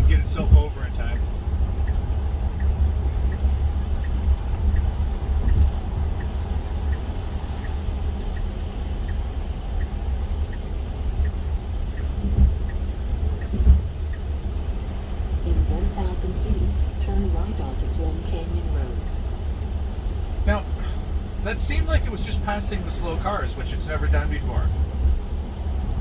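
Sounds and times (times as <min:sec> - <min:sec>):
road rumble inside car: 0:00.0 - 0:26.0
turn signal ticking: 0:00.0 - 0:26.0.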